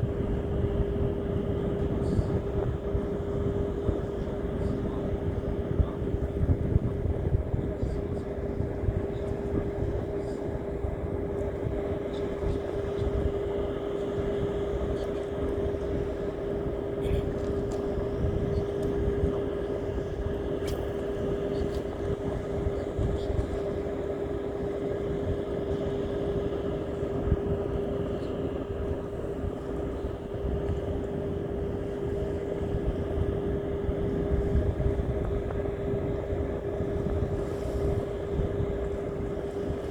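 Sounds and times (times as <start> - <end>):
low rumbling noise: 0.0 - 39.9
steady motor drone: 0.0 - 39.9.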